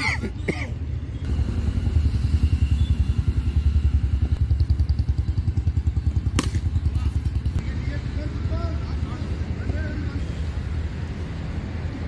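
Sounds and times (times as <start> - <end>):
engine running with low rumble: 0.0 - 12.0.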